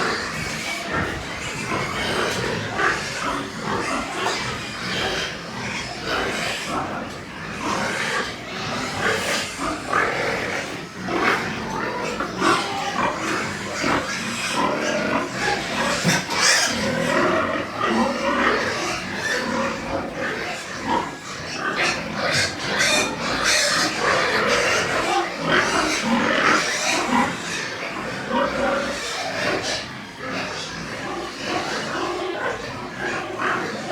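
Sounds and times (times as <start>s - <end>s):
pigs grunting and squealing: 0.0s - 33.9s.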